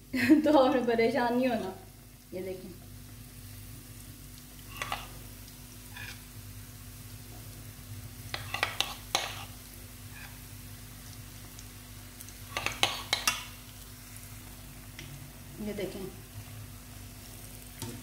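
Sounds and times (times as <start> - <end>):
deep-frying sizzle in oil: 0.0 - 18.0.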